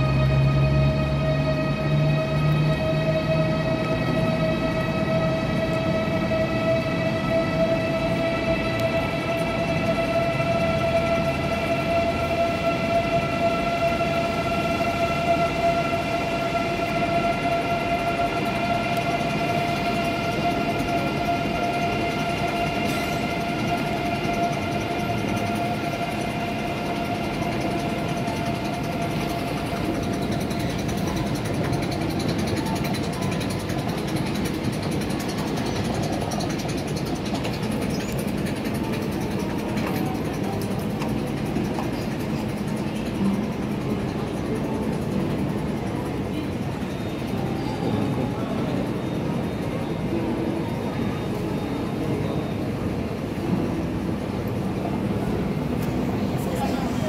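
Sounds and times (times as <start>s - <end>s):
concourse hum and murmur: 0.0s - 57.0s.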